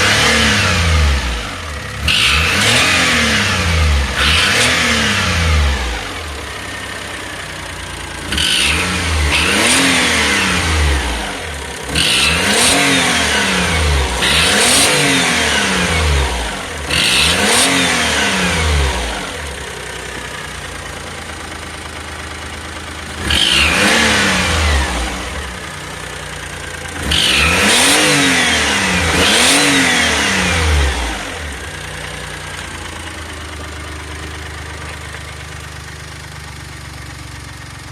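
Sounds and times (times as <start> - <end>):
car engine revving and idling: 0.0 - 37.9.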